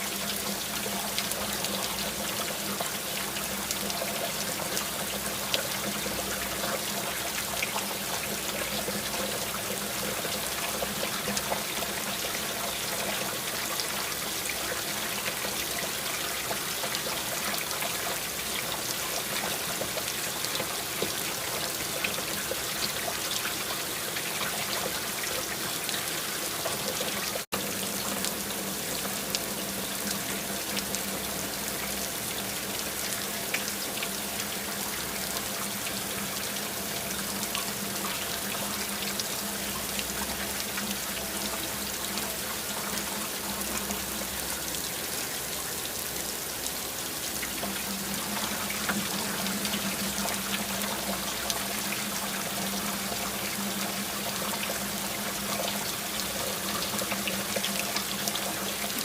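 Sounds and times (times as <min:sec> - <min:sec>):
steady rain hissing: 0:00.0 - 0:59.0
trickling water: 0:00.0 - 0:59.0.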